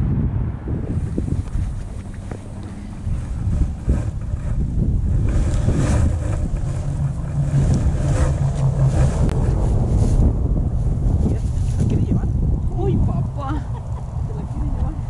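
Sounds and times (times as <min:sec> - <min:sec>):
low steady hum: 0:00.0 - 0:15.0
wind buffeting microphone: 0:00.0 - 0:15.0.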